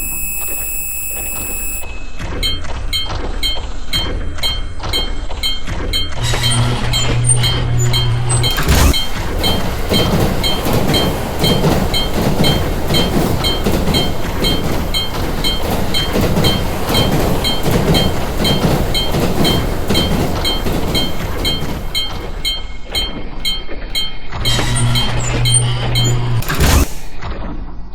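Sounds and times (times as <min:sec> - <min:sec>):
railroad crossing bell clanging: 0:02.4 - 0:27.1.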